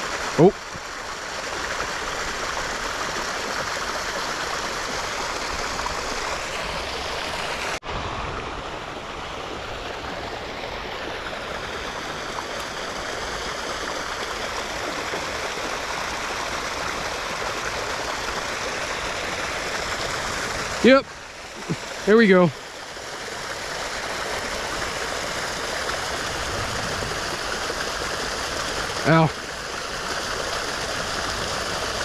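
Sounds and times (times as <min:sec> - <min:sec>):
water flowing in a shallow creek: 0:00.0 - 0:32.0.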